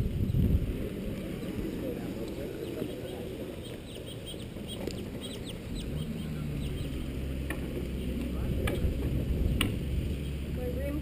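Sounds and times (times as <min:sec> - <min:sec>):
birds chirping: 0:00.0 - 0:11.0
low steady hum: 0:00.0 - 0:11.0
outdoor background noise: 0:00.0 - 0:11.0.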